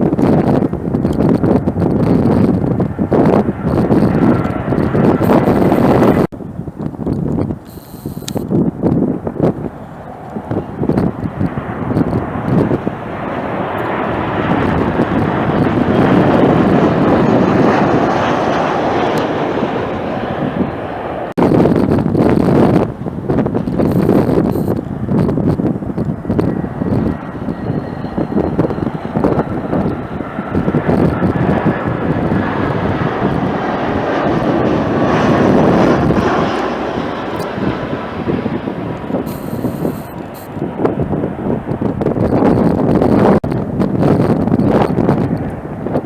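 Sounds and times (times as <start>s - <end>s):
jet airliner engine roar: 0.0s - 46.0s
wind buffeting microphone: 0.0s - 46.0s.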